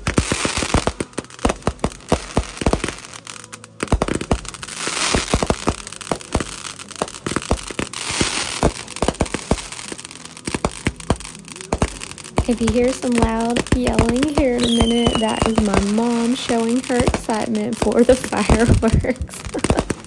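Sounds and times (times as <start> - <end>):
fireworks popping and crackling: 0.0 - 20.0
hissing sparks: 0.0 - 20.0.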